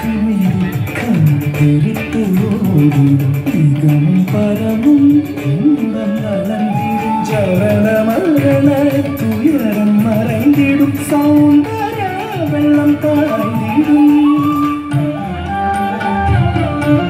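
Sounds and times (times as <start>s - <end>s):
drum accompaniment: 0.0s - 17.0s.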